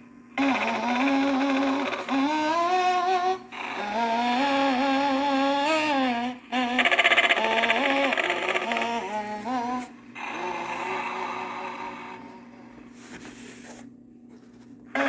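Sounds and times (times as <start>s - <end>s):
recorded voice humming: 0.0s - 13.9s.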